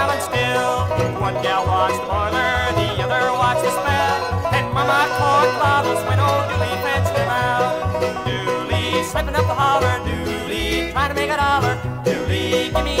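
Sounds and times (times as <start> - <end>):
country instrumental music: 0.0 - 13.0.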